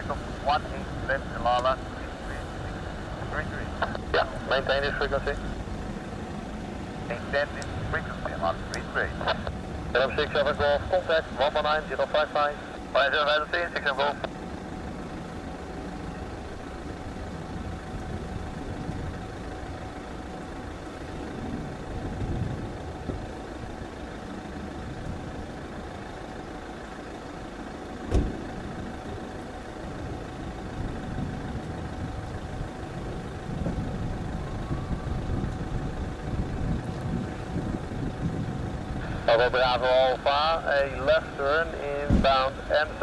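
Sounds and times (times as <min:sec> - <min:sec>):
low engine rumble: 0:00.0 - 0:43.0.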